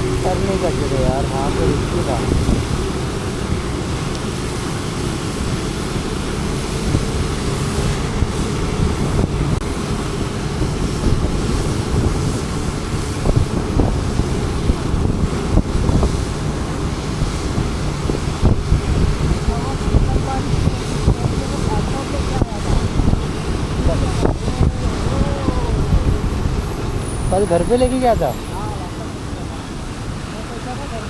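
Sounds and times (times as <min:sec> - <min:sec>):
road and traffic noise: 0:00.0 - 0:31.0
wind buffeting microphone: 0:00.0 - 0:31.0.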